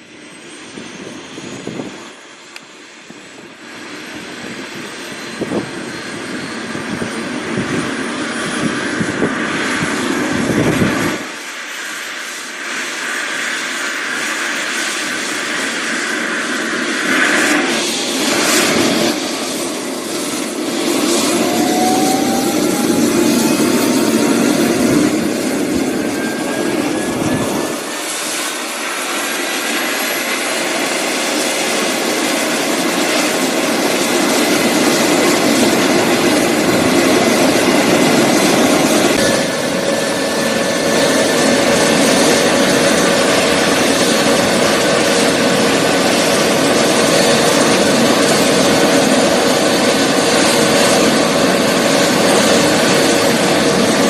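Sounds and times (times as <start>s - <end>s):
helicopter turbine and rotor: 0.0s - 54.0s.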